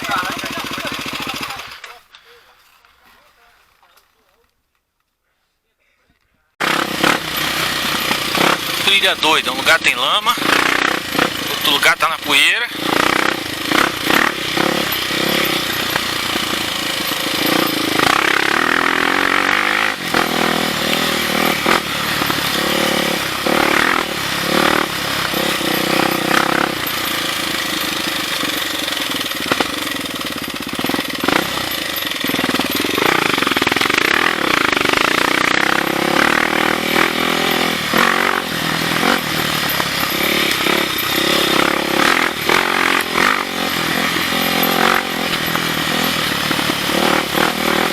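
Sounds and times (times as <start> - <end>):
motorcycle engine revving: 0.0 - 2.1, 6.6 - 47.9.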